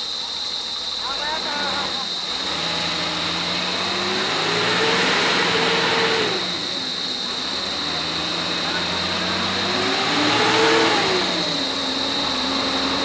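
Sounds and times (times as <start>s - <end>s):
vehicle engine idling and revving: 0.0s - 13.0s.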